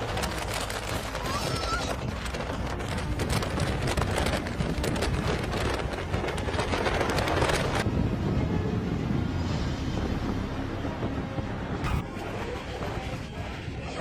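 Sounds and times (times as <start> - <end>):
storm wind and rain: 0.0 - 14.0.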